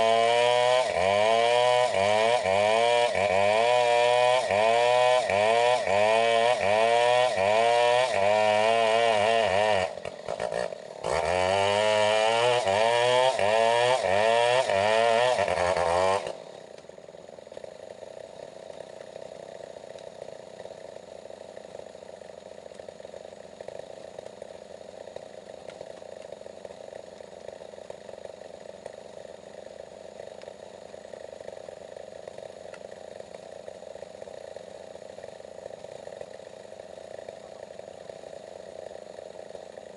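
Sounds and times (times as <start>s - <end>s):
chainsaw running hard: 0.0s - 39.9s.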